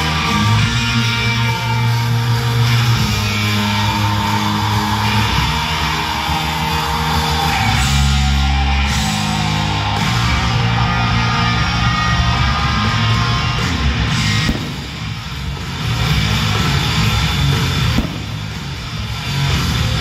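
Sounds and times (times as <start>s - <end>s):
rock music with guitar: 0.0s - 20.0s.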